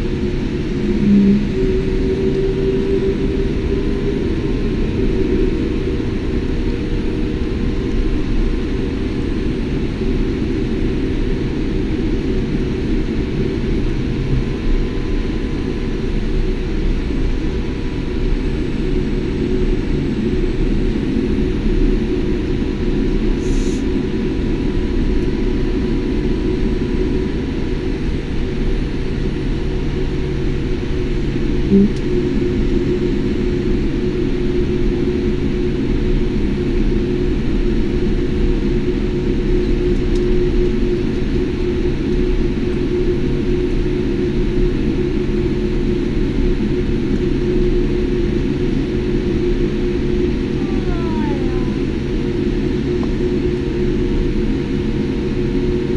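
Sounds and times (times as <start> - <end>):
aircraft cabin rumble: 0.0 - 55.9.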